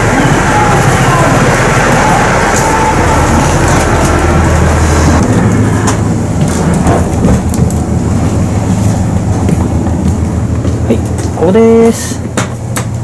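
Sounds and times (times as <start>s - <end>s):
low drone in train car: 0.0s - 13.0s.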